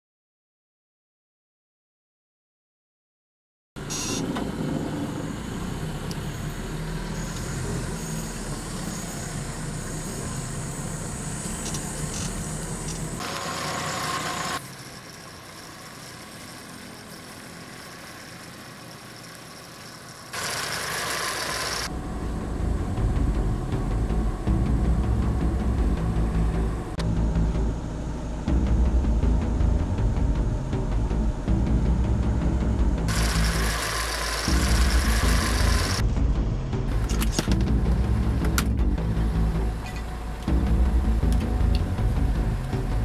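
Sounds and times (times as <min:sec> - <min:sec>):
truck engine idling: 0:04.8 - 0:43.0.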